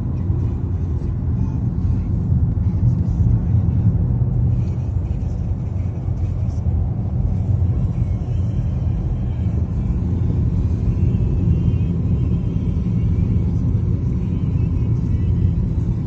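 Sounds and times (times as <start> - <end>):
car interior road rumble: 0.0 - 16.0.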